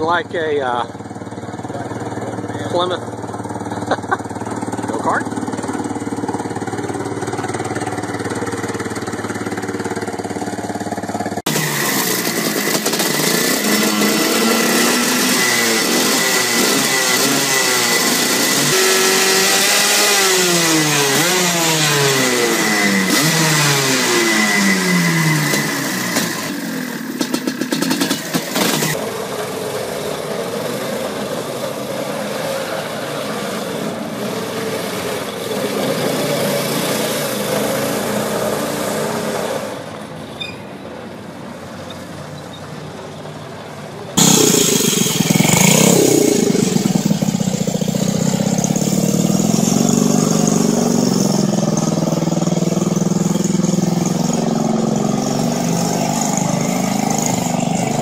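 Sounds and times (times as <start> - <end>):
small engine accelerating: 0.0 - 40.2, 44.2 - 58.0
small engine running steadily: 0.0 - 40.2, 42.7 - 58.0.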